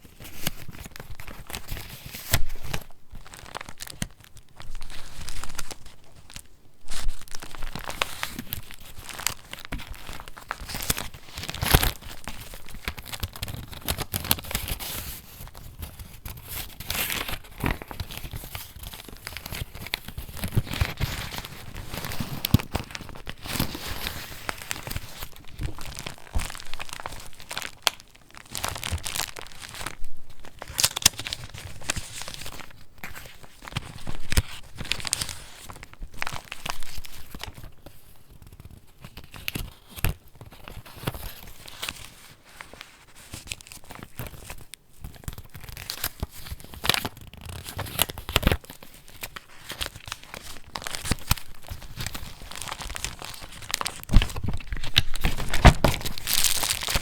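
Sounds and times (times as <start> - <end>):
paper rustling and crinkling: 0.0 - 57.0
crisp page flips: 0.1 - 57.0.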